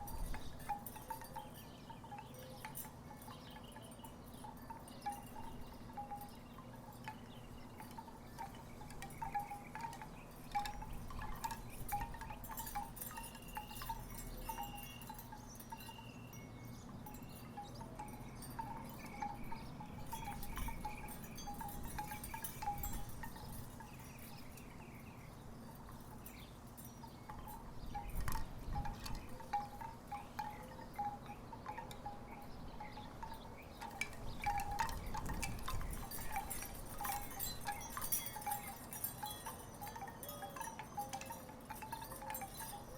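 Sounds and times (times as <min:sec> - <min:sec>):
wooden wind chimes knocking: 0:00.0 - 0:16.0, 0:16.8 - 0:24.5, 0:25.8 - 0:42.9.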